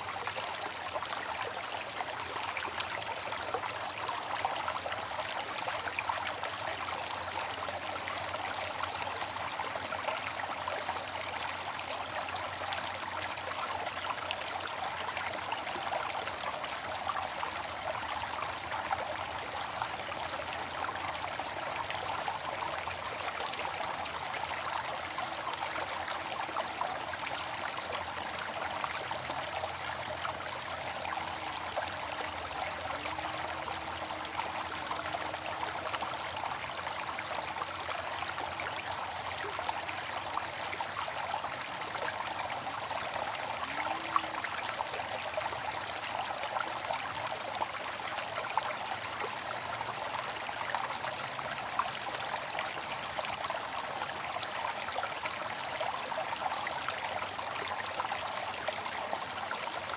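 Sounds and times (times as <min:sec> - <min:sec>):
water fountain splashing: 0:04.7 - 0:55.8.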